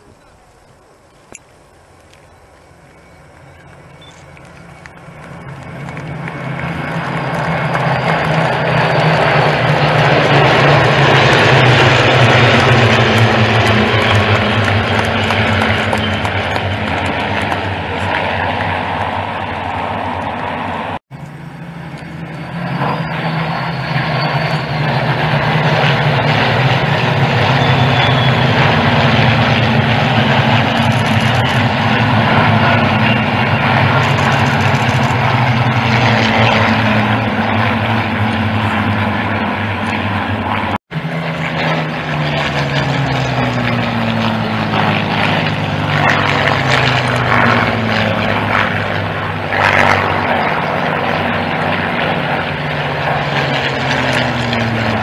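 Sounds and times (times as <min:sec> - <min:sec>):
propeller planes droning past: 0:00.0 - 0:55.0.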